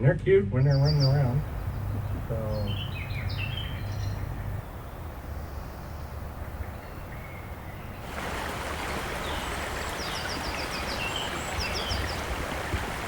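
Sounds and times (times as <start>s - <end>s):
bird chirping: 0.6s - 13.0s
stream water flowing: 1.4s - 13.0s.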